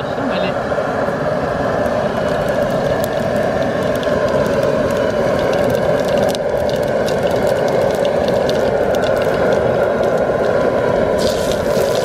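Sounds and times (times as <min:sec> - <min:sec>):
gas burner roaring: 0:00.0 - 0:12.0
spice seeds crackling in hot oil: 0:01.1 - 0:12.0.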